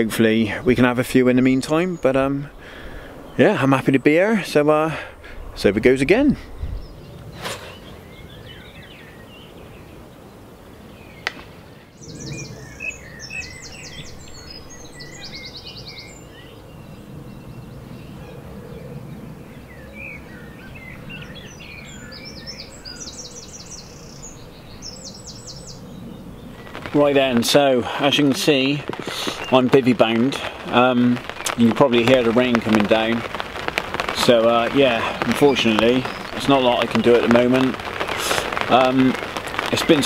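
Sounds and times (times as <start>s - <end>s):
outdoor background hiss: 0.0s - 40.0s
songbirds chirping and trilling: 0.0s - 40.0s.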